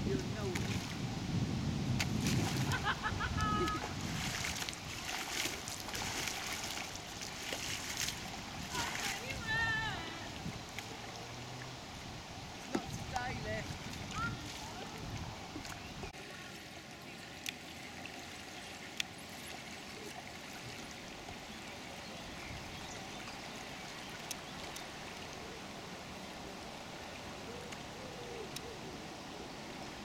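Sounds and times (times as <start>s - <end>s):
water trickling and dripping: 3.3s - 27.9s.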